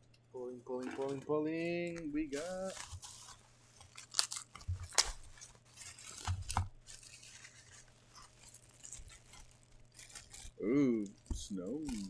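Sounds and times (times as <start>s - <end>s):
packaging rustling and tearing: 0.8s - 12.0s
packaging crunches and clicks: 1.8s - 12.0s.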